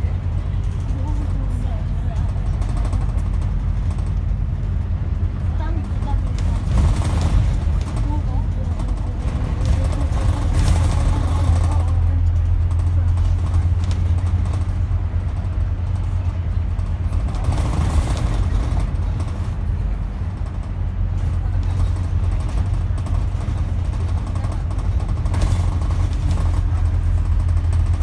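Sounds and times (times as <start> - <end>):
bus diesel engine droning: 0.0 - 28.0.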